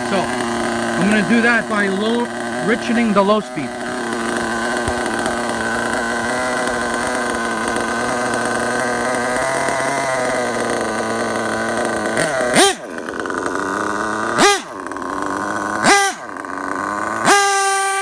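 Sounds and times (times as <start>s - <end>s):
engine throttle blip: 0.0s - 18.0s
nitro engine idling: 0.0s - 18.0s.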